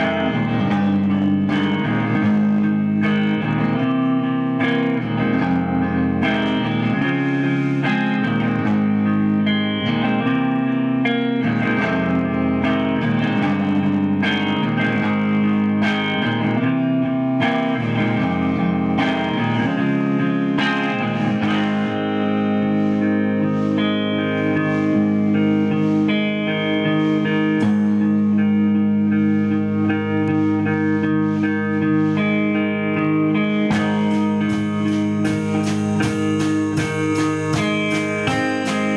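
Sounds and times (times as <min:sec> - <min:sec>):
electric guitar with effects: 0:00.0 - 0:38.9
live band music: 0:00.0 - 0:38.9.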